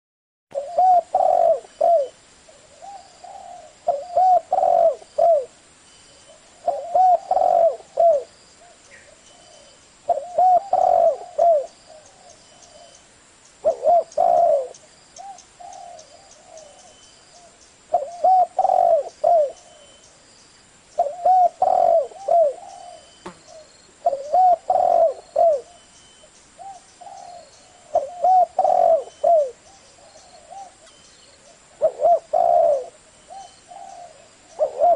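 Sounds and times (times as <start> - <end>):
dove cooing: 0.6 - 5.6, 6.3 - 13.0, 13.6 - 20.0, 21.0 - 25.9, 26.6 - 34.9.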